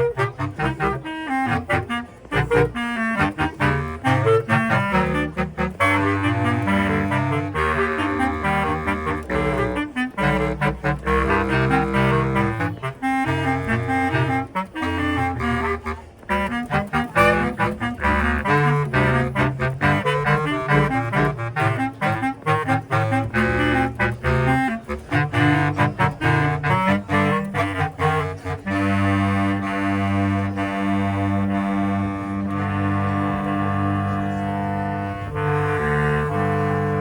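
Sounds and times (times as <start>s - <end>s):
bass clarinet quartet playing: 0.0s - 37.0s.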